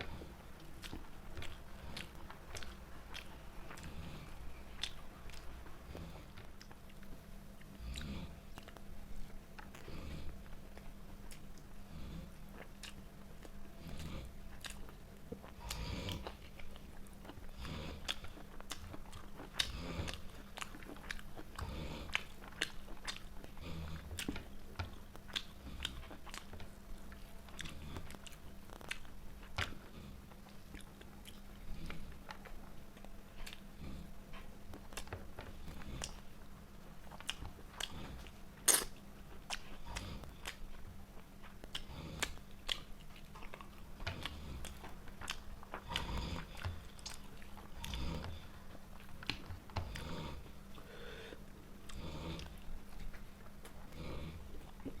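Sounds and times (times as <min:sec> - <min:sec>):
faint low hum: 0:00.0 - 0:55.0
person chewing food: 0:00.0 - 0:55.0.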